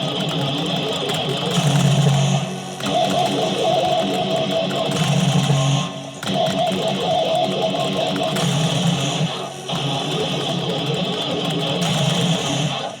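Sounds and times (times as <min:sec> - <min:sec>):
plucked and strummed guitar music: 0:00.0 - 0:13.0.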